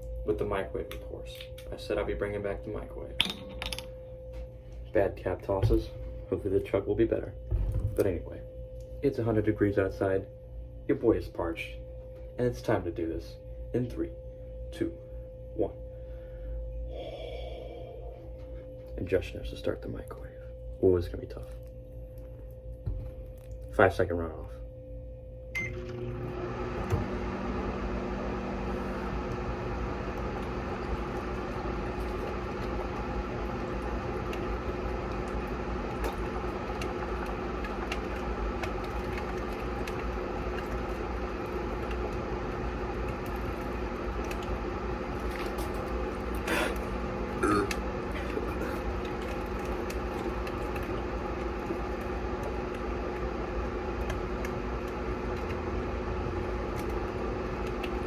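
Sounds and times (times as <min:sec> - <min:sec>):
microwave oven humming: 0:00.0 - 0:58.0.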